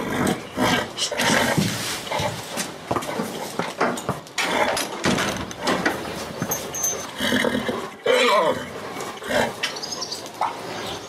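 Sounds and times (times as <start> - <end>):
horse vocalizing: 0.0 - 11.0.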